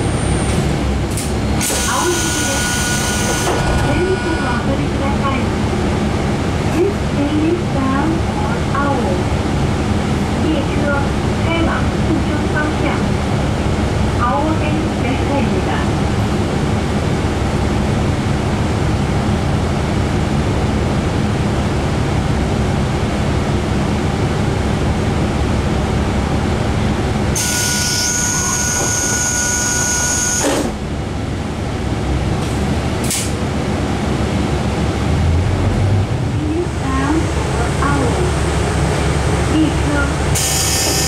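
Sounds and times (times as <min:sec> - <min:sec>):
diesel railcar engine idling: 0:00.0 - 0:41.0.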